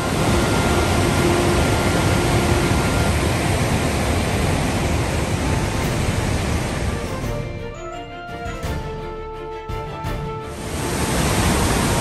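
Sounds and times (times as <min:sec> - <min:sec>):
rushing water roar: 0:00.0 - 0:12.0.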